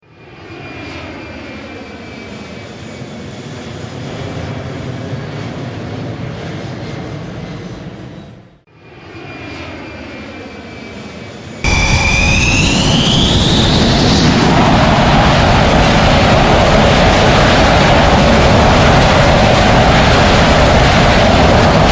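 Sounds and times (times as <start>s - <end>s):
jet engine running: 0.1s - 21.9s
jet engine whine spooling up: 0.1s - 21.9s.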